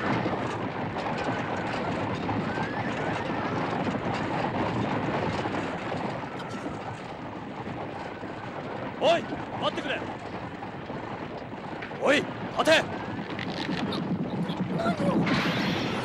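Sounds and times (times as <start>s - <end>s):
horse hooves galloping: 0.0s - 16.0s.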